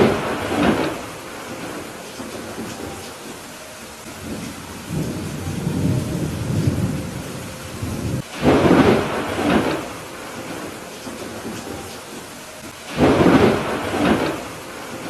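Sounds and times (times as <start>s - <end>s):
sharp thunderclap: 0.0s - 2.9s, 4.2s - 11.6s, 12.9s - 15.0s
steady rain falling: 0.0s - 15.0s
thunder rumbling: 0.0s - 15.0s.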